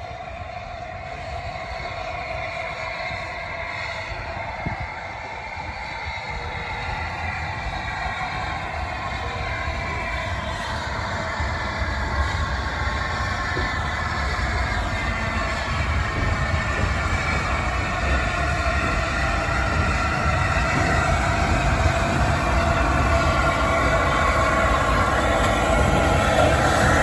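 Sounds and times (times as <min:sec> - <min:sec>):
steam train running over bridge: 0:00.0 - 0:27.0.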